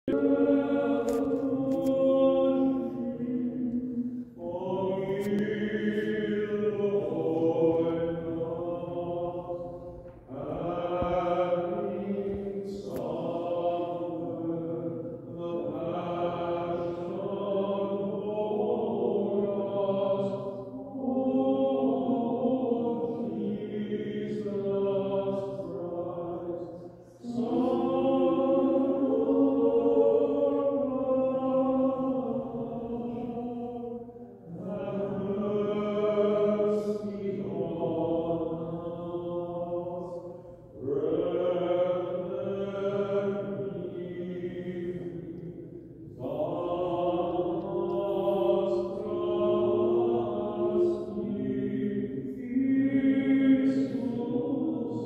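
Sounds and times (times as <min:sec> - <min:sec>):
unaccompanied liturgical chant: 0:00.0 - 0:55.0.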